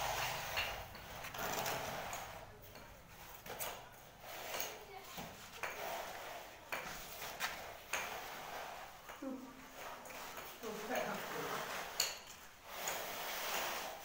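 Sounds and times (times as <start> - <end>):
straightedge scraping wet cement: 0.0 - 14.0.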